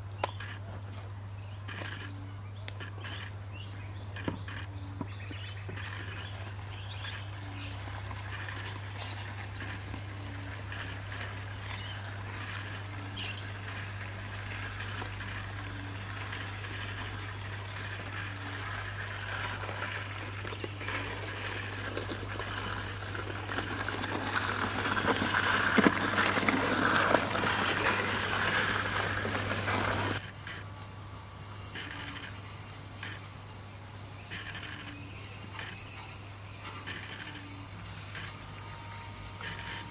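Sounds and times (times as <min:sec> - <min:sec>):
model tram running on track: 0:01.3 - 0:39.9.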